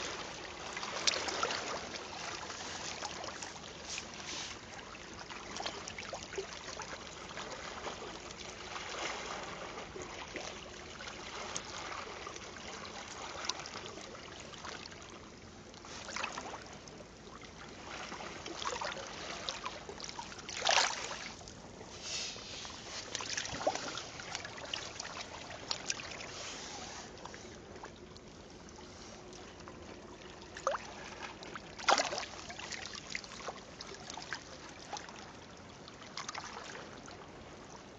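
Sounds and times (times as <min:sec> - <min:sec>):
water splashes: 0:00.0 - 0:37.8
water lapping and sloshing: 0:00.0 - 0:37.9.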